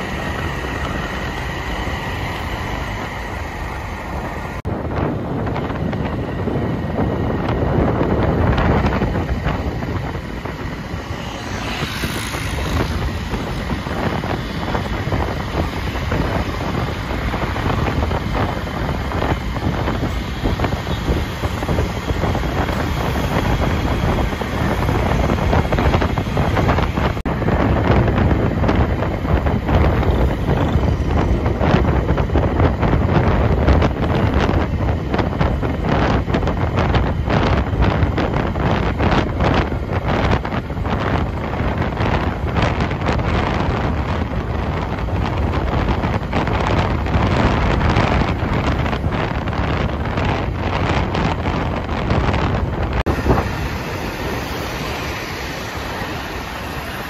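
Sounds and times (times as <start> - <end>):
road and engine noise: 0.0 - 57.0
wind buffeting microphone: 0.0 - 57.0.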